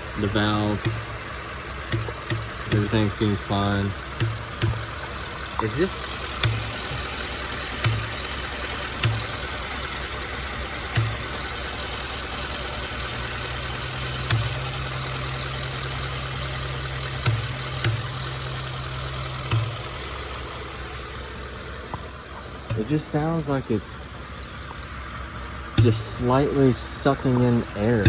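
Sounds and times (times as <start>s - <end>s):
engine idling: 0.0s - 28.0s
low thump from engine: 0.0s - 28.0s.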